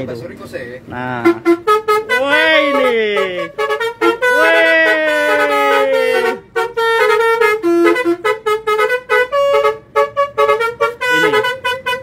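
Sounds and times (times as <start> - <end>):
musical bus horn: 1.2 - 12.0.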